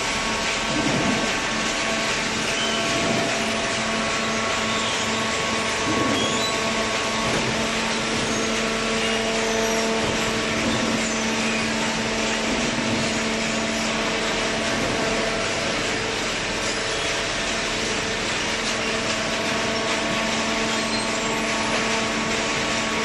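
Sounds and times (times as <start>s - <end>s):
baling machine humming: 0.0s - 23.0s.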